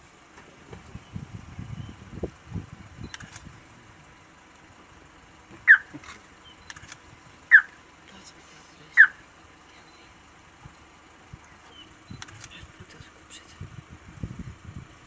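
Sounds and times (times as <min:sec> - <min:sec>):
low rumbling: 0:00.0 - 0:15.0.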